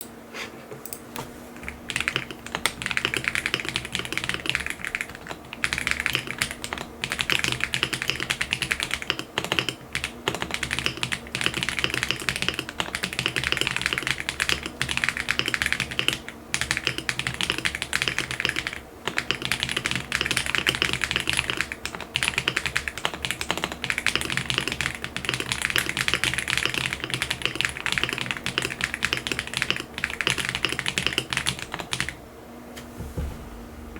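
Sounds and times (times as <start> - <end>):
fast typing on mechanical keyboard: 1.6 - 32.2.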